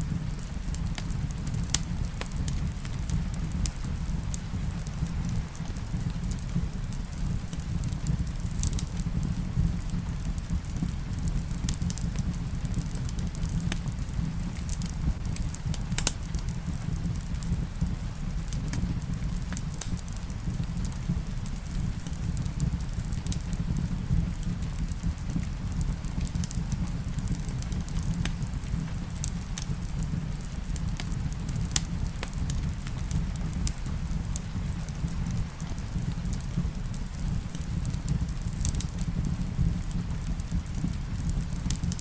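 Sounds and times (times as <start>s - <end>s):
rain on a roof: 0.0s - 42.0s
wood fire crackling: 0.0s - 42.0s.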